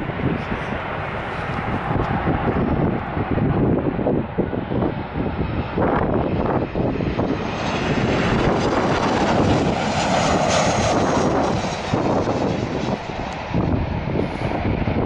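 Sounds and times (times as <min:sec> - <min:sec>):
airliner engines rushing: 0:00.0 - 0:15.0.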